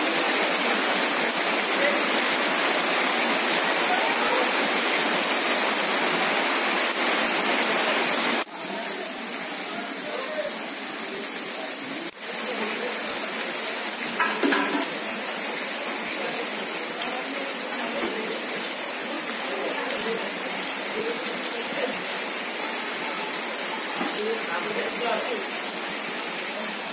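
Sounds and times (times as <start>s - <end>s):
heavy rain falling: 0.0s - 26.9s
rainwater gushing and splashing: 0.0s - 26.9s.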